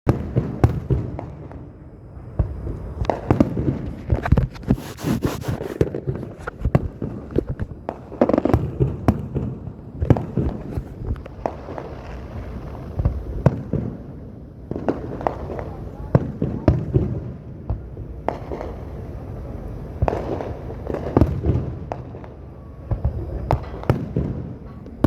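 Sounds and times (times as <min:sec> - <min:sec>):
fireworks bangs and crackling: 0:00.1 - 0:25.0.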